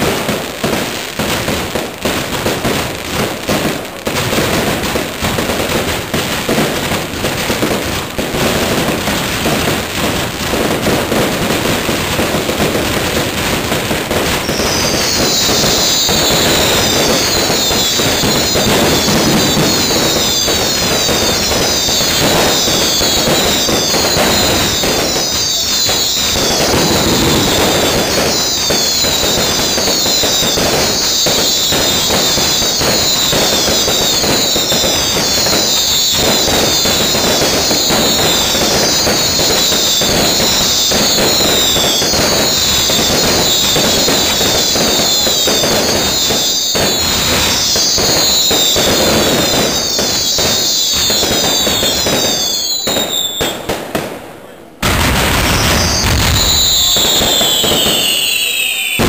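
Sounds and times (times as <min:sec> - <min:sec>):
fireworks bangs and crackling: 0:00.0 - 0:59.0
whistling firework shells: 0:00.0 - 0:59.0.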